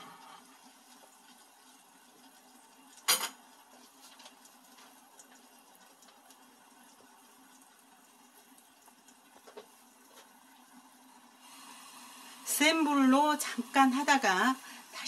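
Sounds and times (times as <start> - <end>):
food steaming and crackling in pan: 0.0 - 15.0.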